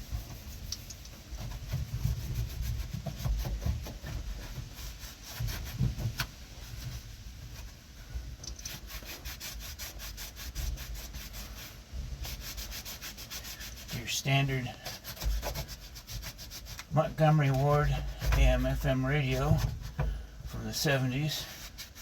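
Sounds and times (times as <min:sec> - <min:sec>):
hand scrubbing a surface: 0:00.0 - 0:07.0, 0:08.6 - 0:22.0.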